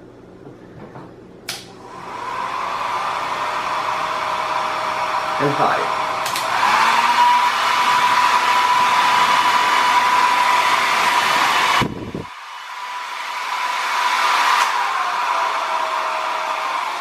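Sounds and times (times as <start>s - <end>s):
hair dryer blowing with whine: 1.5s - 17.0s.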